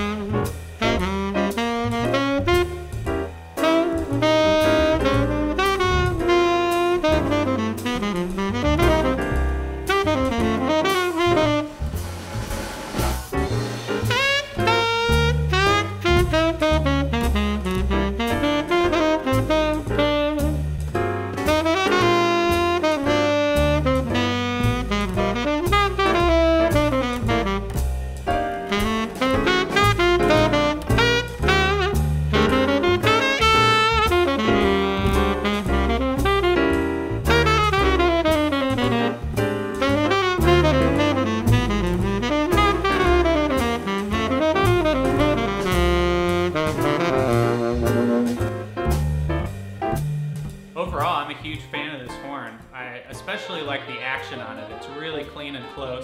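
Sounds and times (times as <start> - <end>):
backing track of bass and drums: 0.0 - 55.6
tenor saxophone jazz melody: 0.0 - 56.0.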